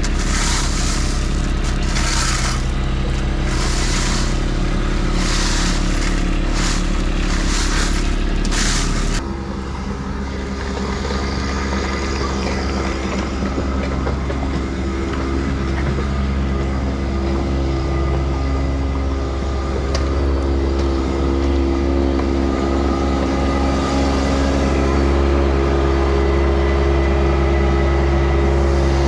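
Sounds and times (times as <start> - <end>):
heavy equipment engine running: 0.0 - 29.0.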